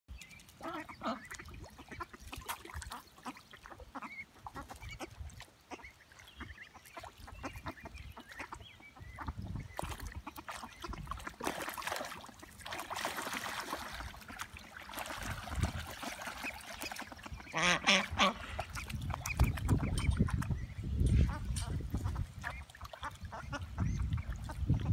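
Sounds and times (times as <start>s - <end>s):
water splashing: 0.2s - 20.6s, 21.3s - 24.9s
ducks quacking: 0.6s - 24.9s.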